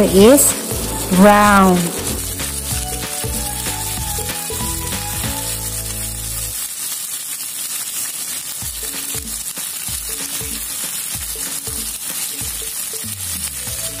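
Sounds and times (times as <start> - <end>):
fish sizzling in a pan: 0.0 - 14.0.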